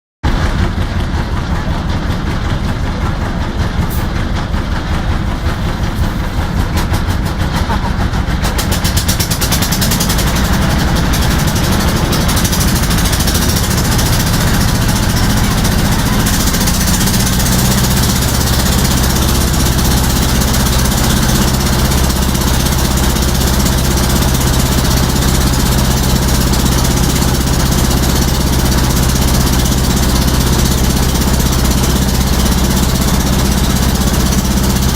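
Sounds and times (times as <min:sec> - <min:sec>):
boat engine droning: 0:00.3 - 0:34.9.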